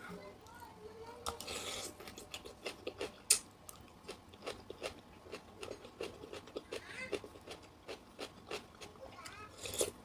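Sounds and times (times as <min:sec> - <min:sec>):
crunchy chewing: 0:01.2 - 0:10.0.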